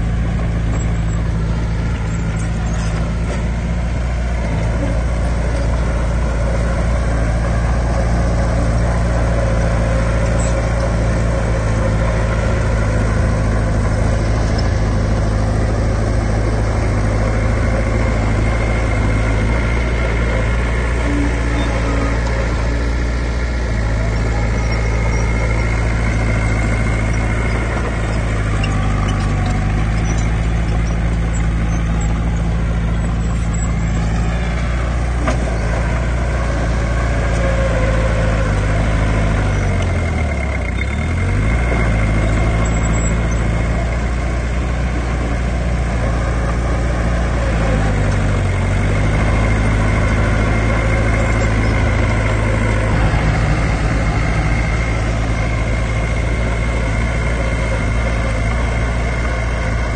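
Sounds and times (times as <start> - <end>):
diesel earthmoving machine running: 0.0 - 59.9.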